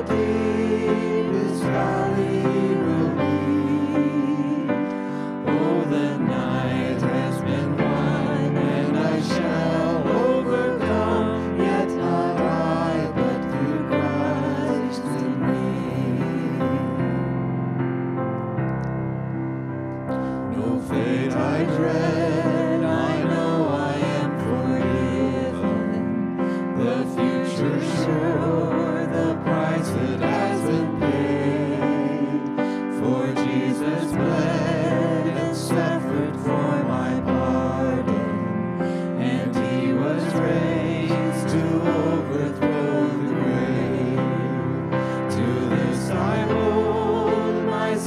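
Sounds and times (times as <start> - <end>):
voices singing: 0.0 - 17.3, 20.2 - 48.0
piano playing: 0.0 - 48.0.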